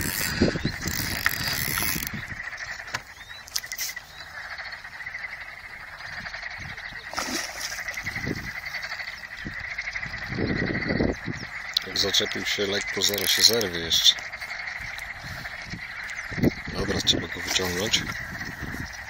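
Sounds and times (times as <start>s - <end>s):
frogs calling in trilling chorus: 0.0s - 19.0s.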